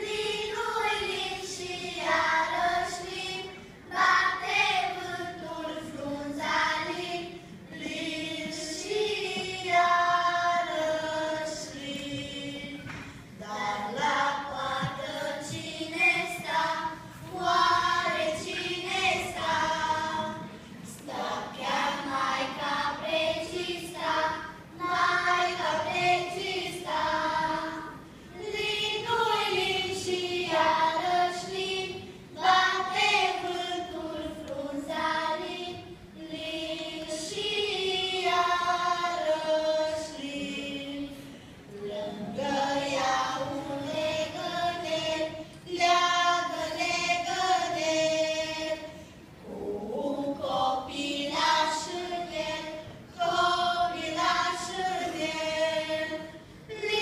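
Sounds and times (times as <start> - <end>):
children's choir singing folk song: 0.0 - 57.0.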